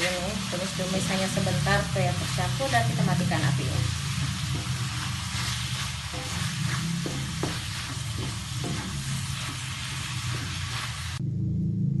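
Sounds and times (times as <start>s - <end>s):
stir-fry sizzling in a wok: 0.0s - 11.2s
wooden spatula scraping wok: 0.0s - 11.2s.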